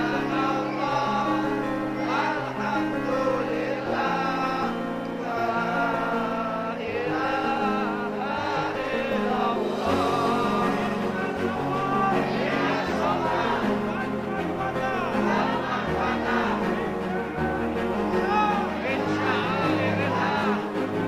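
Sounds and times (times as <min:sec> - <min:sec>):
held instrumental notes: 0:00.0 - 0:21.0
person singing: 0:00.0 - 0:21.0.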